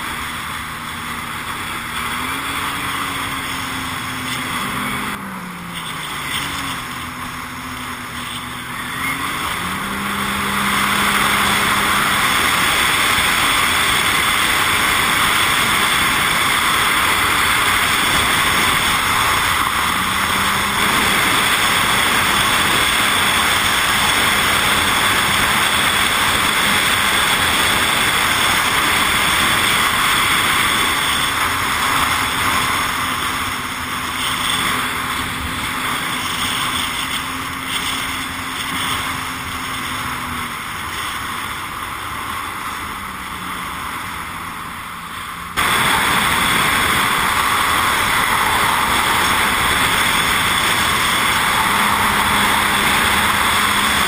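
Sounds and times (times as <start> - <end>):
jet ski engine drone: 0.0 - 54.0
rushing wind and water: 0.0 - 54.0.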